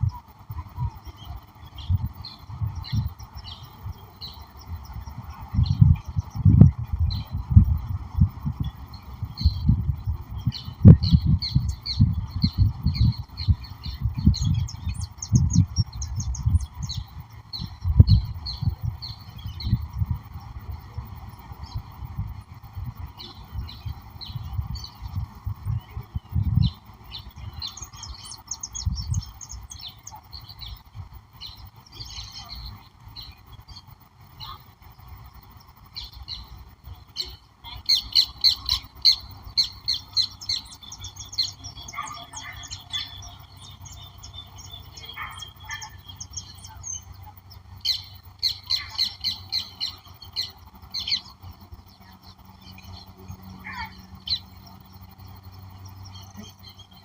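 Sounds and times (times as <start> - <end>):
long fast bird trill: 0.0 - 57.0
steady background drone: 0.0 - 57.0
wild birds chirping and singing: 0.0 - 57.0.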